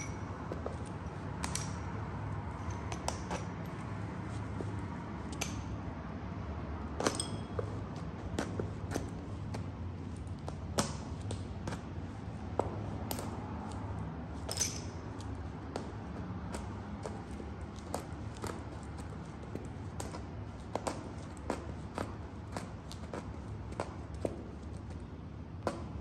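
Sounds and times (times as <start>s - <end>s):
heels tapping on concrete: 0.0s - 5.7s, 6.9s - 26.0s
steady low hum: 0.0s - 26.0s.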